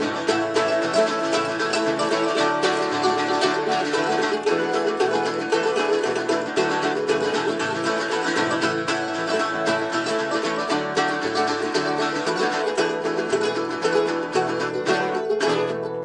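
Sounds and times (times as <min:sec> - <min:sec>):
mandolin and acoustic guitars strumming: 0:00.0 - 0:16.0.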